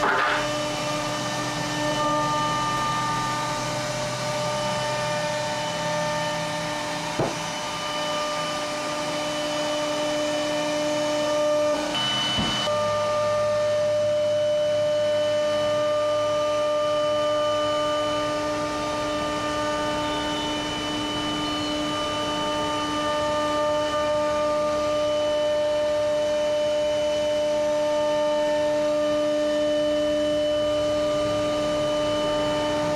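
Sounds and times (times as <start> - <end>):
router spindle whine: 0.0 - 32.9.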